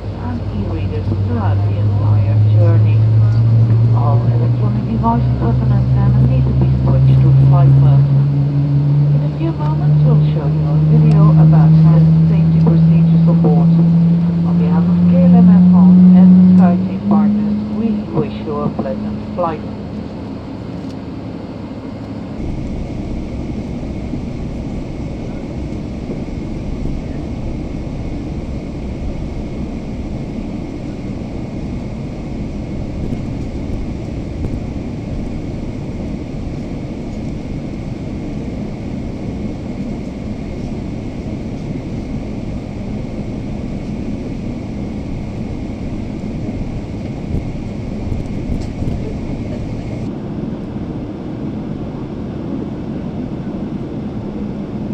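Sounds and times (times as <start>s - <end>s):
faint steady whine: 0.0s - 51.9s
airliner cabin rumble and hiss: 0.0s - 54.9s.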